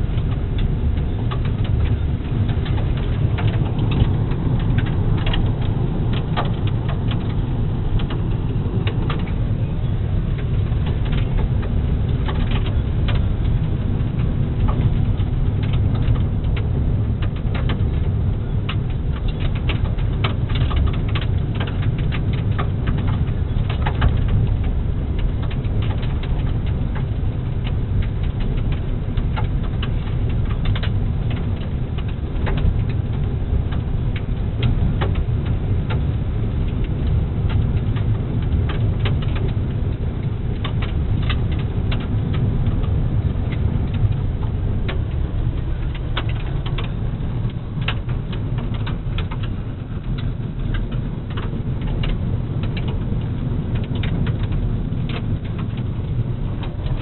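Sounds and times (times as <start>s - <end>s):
gravel clicking against underbody: 0.0s - 57.0s
tyre and road rumble: 0.0s - 57.0s.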